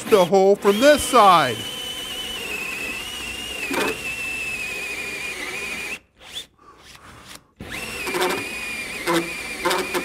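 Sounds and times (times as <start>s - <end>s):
power drill whining: 0.0s - 10.0s.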